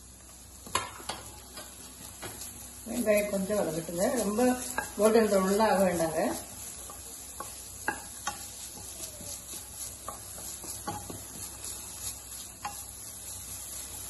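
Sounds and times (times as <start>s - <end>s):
onions sizzling in pan: 0.0s - 14.0s
spatula tapping and scraping pan: 0.3s - 14.0s.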